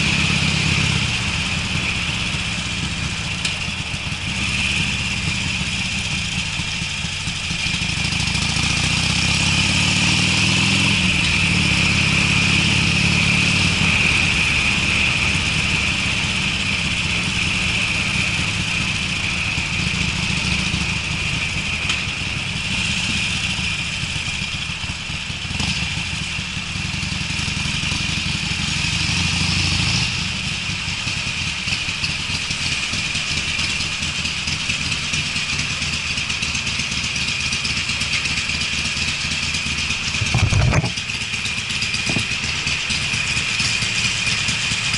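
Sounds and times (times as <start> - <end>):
motorcycle exhaust accelerating: 0.0 - 44.9.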